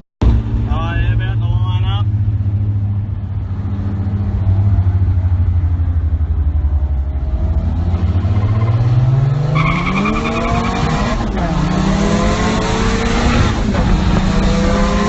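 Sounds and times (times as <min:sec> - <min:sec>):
car engine revving: 0:00.2 - 0:15.0.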